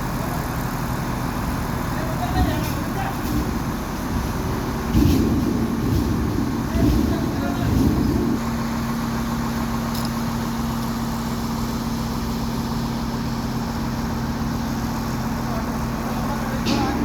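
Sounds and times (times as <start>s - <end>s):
crane diesel engine running: 0.0s - 17.0s.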